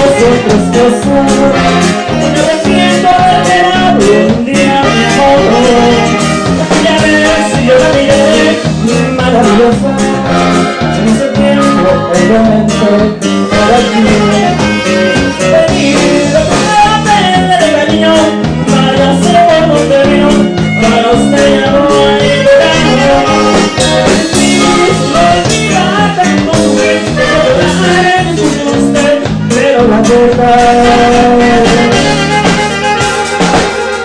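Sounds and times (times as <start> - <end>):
man singing: 0.0 - 33.8
acoustic guitar: 0.0 - 34.0
electric bass: 0.0 - 34.0
live latin band music: 0.0 - 34.0.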